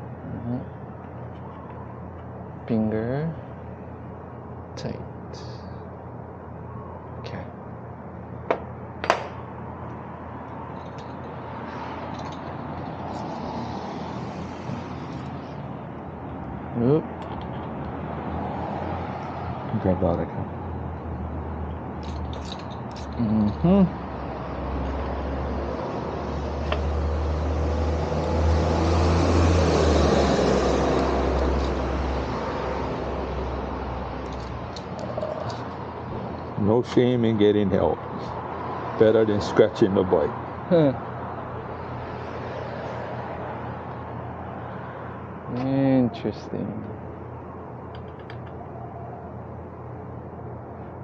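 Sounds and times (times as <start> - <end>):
road traffic rushing: 0.0 - 51.0
motor vehicle passing: 8.5 - 51.0.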